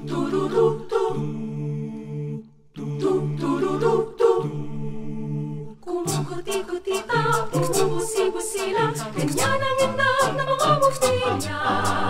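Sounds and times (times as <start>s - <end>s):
a cappella choir singing in harmony: 0.0s - 12.0s.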